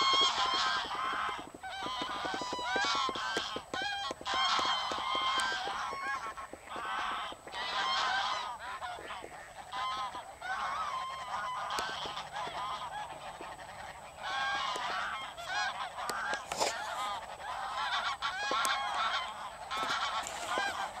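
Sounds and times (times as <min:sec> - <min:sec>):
flock of geese honking: 0:00.0 - 0:21.0.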